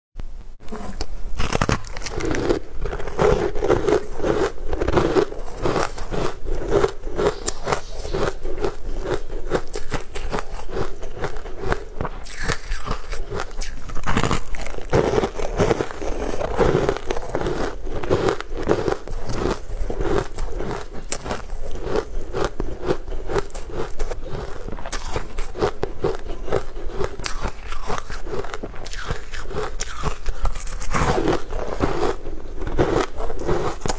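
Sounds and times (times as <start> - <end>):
biting and chewing cake: 0.6 - 33.9
crisp crackles and crunches: 0.7 - 33.9.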